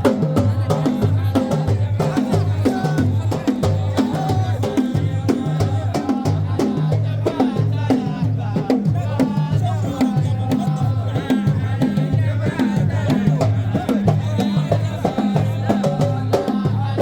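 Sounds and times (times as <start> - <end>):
music with percussive beat: 0.0 - 17.0.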